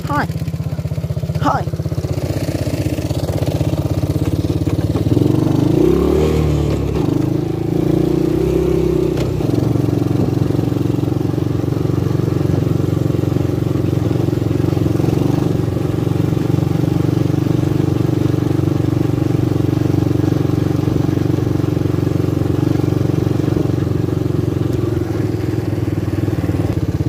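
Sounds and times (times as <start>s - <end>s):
atv engine running steadily: 0.0s - 27.0s.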